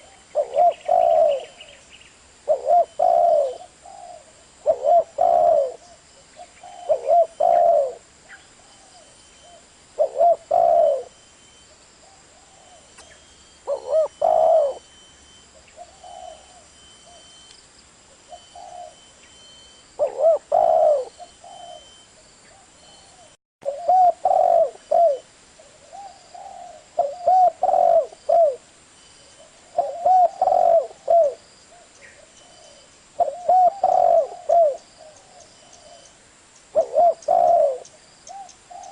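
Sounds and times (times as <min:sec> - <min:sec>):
dove cooing: 0:00.0 - 0:01.8, 0:02.4 - 0:11.2, 0:12.0 - 0:17.4, 0:18.1 - 0:28.6, 0:29.2 - 0:36.1, 0:36.7 - 0:38.9.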